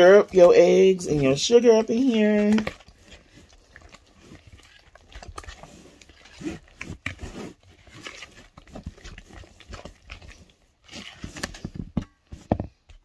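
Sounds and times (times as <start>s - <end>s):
utensil scraping metal bowl: 0.0s - 11.7s
wet squishing of batter: 0.0s - 13.0s.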